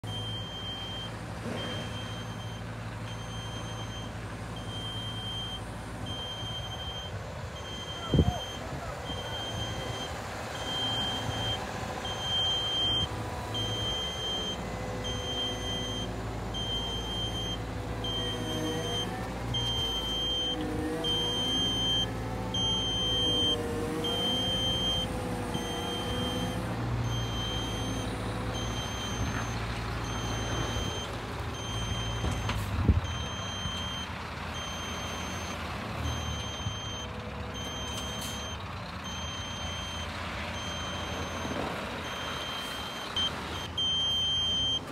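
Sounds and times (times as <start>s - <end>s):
diesel engine running: 0.0s - 44.9s
warning alarm beeps: 0.1s - 44.9s.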